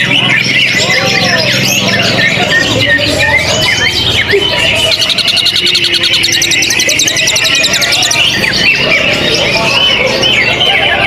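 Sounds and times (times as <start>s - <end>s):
fast buzzy bird trill: 0.0s - 11.0s
rapid chirps and whistles: 0.0s - 11.0s
songbird singing: 0.0s - 11.0s.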